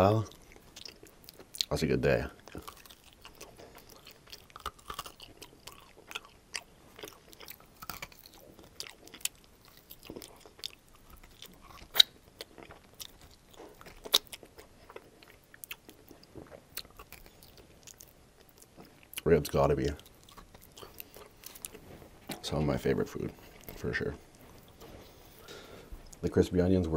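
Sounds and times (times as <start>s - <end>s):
chewing with wet smacks: 0.0s - 26.2s.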